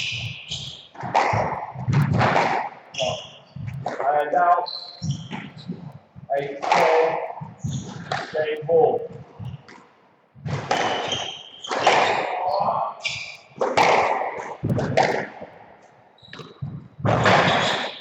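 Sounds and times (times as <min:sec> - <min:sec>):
shoes squeaking on wooden floor: 0:00.0 - 0:15.5, 0:16.2 - 0:18.0
squash ball hitting rackets and walls: 0:00.0 - 0:15.6, 0:16.3 - 0:18.0.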